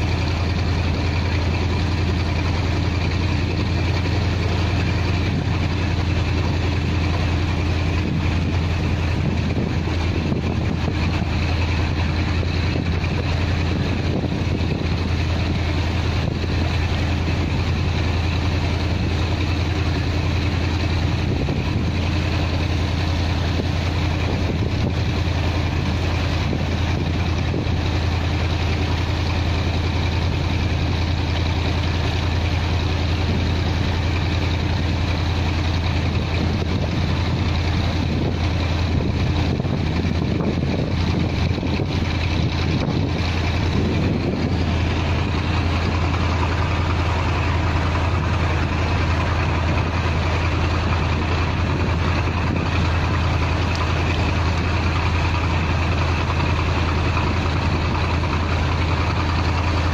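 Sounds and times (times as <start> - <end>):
boat engine droning: 0.0 - 59.9
water rushing past hull: 0.0 - 59.9.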